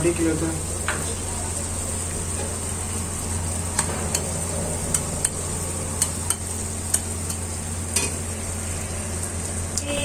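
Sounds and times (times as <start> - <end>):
onion mix sizzling in a pan: 0.0 - 10.0.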